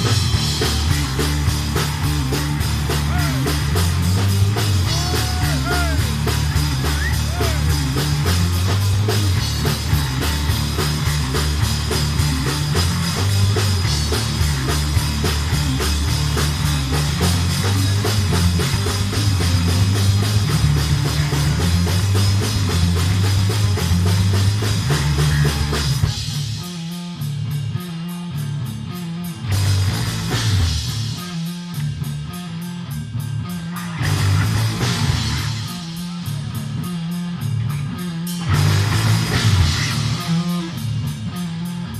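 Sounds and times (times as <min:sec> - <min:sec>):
rock band playing live: 0:00.0 - 0:41.9.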